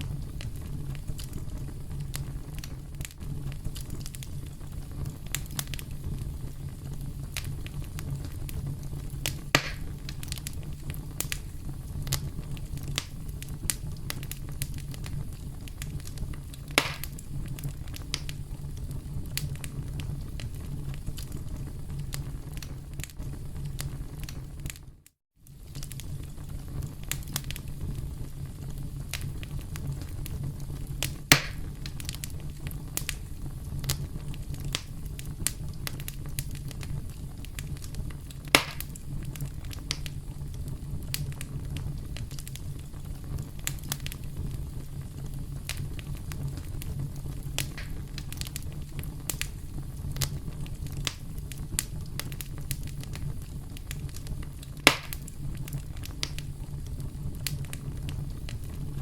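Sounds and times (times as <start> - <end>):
campfire crackling: 0.0 - 59.0
sharp fire pops: 0.0 - 59.0.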